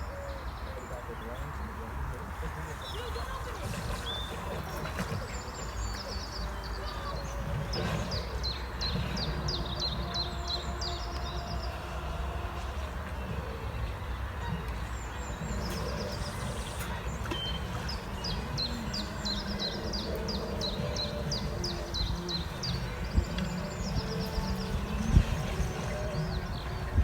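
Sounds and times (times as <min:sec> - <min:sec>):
steady low rumble: 0:03.2 - 0:27.0.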